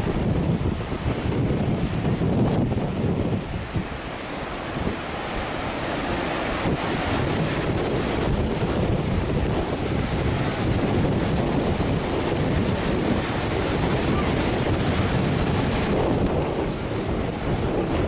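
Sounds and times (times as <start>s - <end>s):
stream rushing: 0.0s - 18.0s
wind buffeting microphone: 0.0s - 18.0s.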